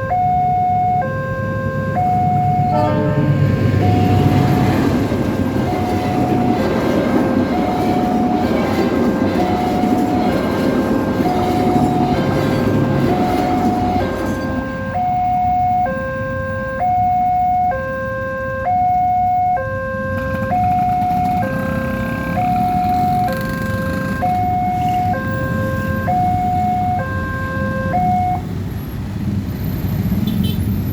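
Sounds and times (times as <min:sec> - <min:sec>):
two-tone crossing alarm: 0:00.0 - 0:28.6
train rumbling: 0:01.5 - 0:17.6, 0:19.9 - 0:30.9.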